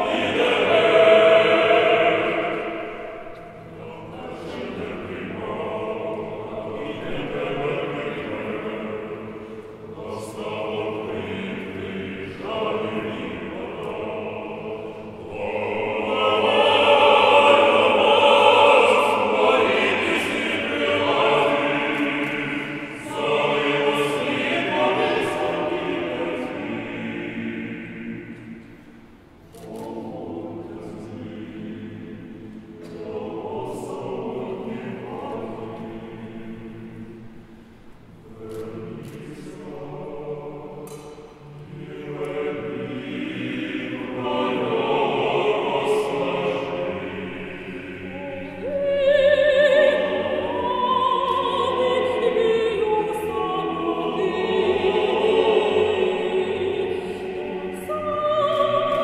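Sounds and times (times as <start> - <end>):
men's choir singing a cappella: 0.0 - 59.0.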